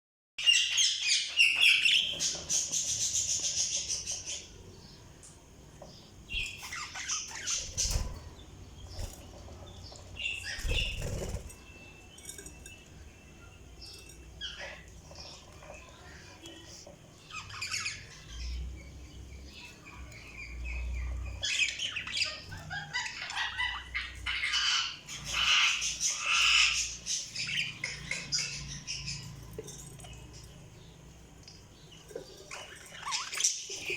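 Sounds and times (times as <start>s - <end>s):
budgerigars chirping and warbling: 0.4s - 5.1s, 5.8s - 33.9s.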